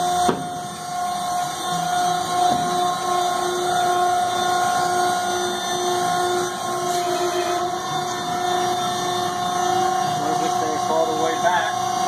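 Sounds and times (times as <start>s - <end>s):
hydraulic power unit whining: 0.0s - 12.0s.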